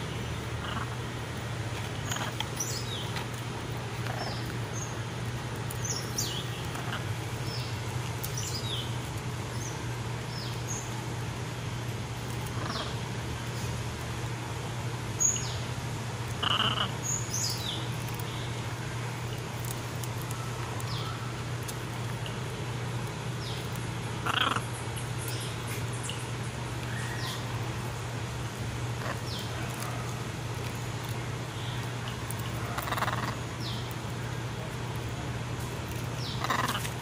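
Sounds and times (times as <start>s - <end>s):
birds chirping: 0.0s - 37.0s
steady low hum: 0.0s - 37.0s.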